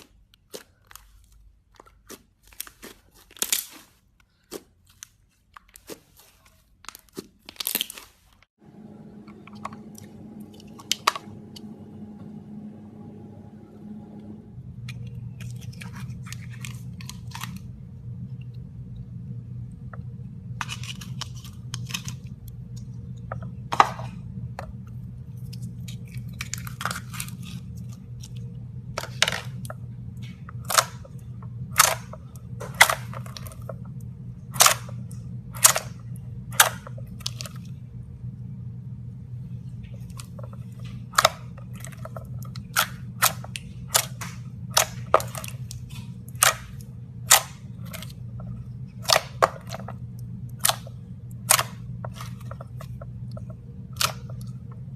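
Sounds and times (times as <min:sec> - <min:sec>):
low hum: 0:08.6 - 0:54.9.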